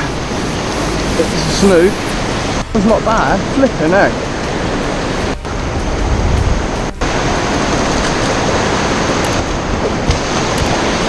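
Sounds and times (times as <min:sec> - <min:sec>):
surf rushing over rocks: 0:00.0 - 0:11.0.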